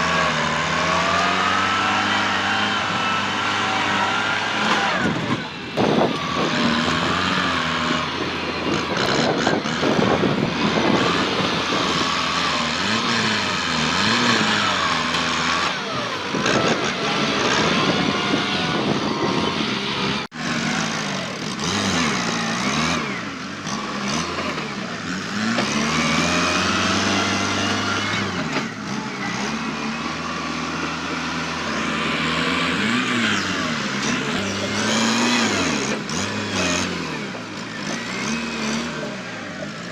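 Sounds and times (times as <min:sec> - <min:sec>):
tractor diesel engine revving under load: 0:00.0 - 0:39.9.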